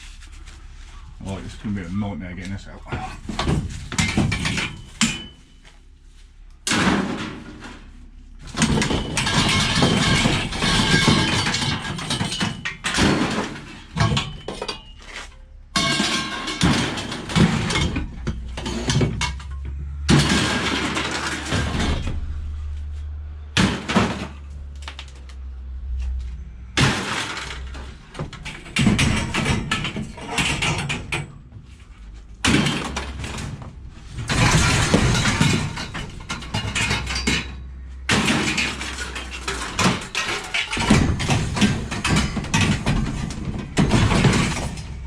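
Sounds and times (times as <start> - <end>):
low hum: 0.0 - 38.5
scrap metal clanking: 2.9 - 5.7, 6.6 - 45.0.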